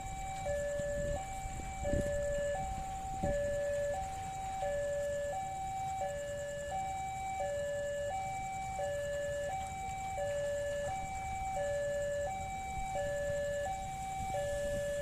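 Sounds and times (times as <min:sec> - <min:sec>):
level crossing two-tone alarm: 0:00.0 - 0:15.0
low traffic rumble: 0:00.0 - 0:15.0.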